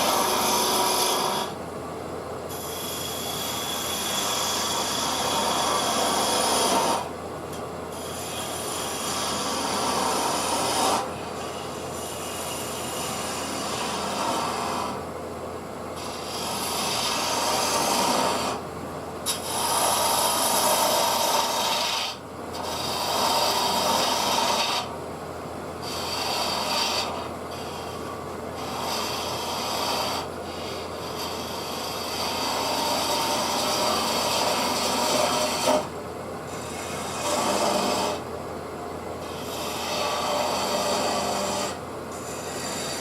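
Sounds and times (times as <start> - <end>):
turning tool rasping against wood: 0.0 - 1.6, 2.5 - 15.0, 16.0 - 18.6, 19.2 - 24.9, 25.8 - 35.9, 36.5 - 38.2, 39.2 - 43.0
wood lathe spinning: 0.0 - 1.6, 2.5 - 15.1, 15.9 - 25.0, 25.8 - 38.3, 39.1 - 43.0.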